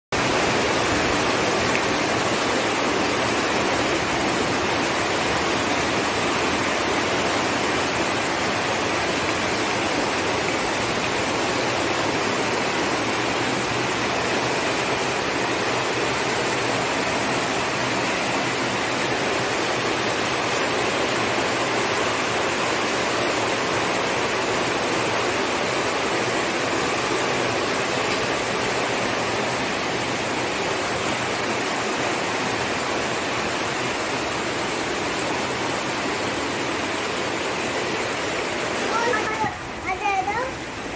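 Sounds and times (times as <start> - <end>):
heavy rain on wet pavement: 0.1 - 40.9.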